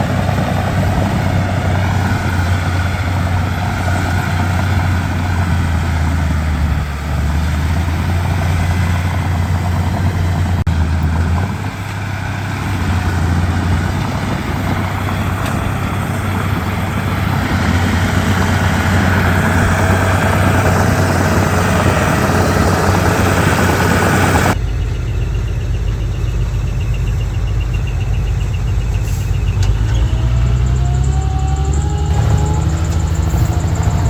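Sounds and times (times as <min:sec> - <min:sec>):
engine revving: 0:00.0 - 0:24.6, 0:27.2 - 0:34.0
bulldozer diesel engine running: 0:00.0 - 0:34.0.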